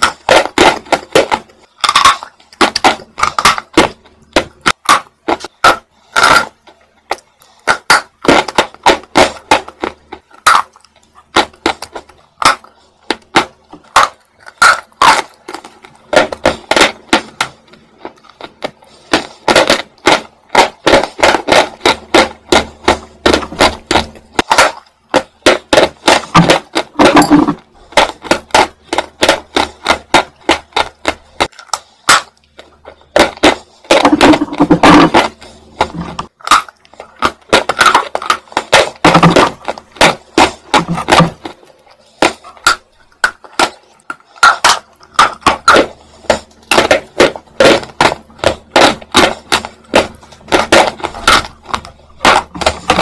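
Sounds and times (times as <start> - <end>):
crunchy chewing: 0.0 - 53.0.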